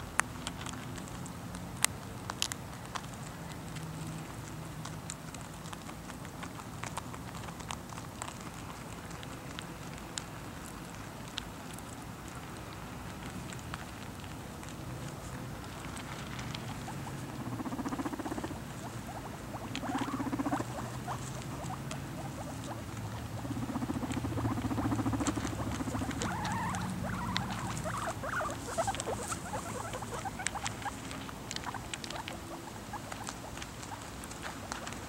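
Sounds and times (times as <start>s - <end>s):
guinea pigs crunching pellets: 0.0s - 35.0s.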